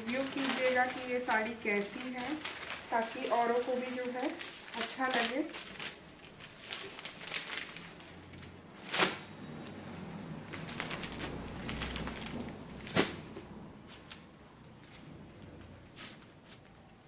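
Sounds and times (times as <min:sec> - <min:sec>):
fabric rustling: 0:00.0 - 0:16.8.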